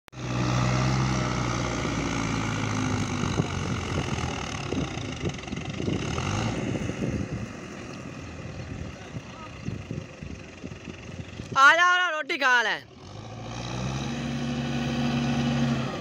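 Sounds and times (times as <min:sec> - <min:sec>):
tractor diesel engine under load: 0:00.1 - 0:16.0.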